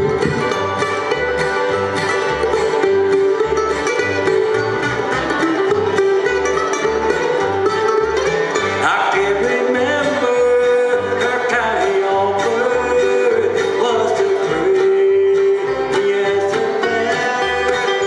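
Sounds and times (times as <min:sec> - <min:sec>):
bluegrass band playing: 0:00.0 - 0:18.0
upright bass pulse: 0:00.0 - 0:18.0.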